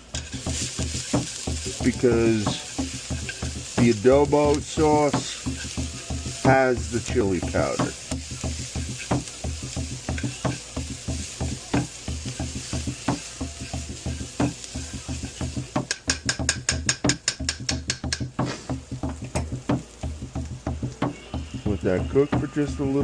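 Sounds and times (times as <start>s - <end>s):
utensil clicking against pan: 0.0s - 22.5s
onions sizzling in a pan: 0.0s - 23.0s
utensil stirring and scraping pan: 0.0s - 23.0s.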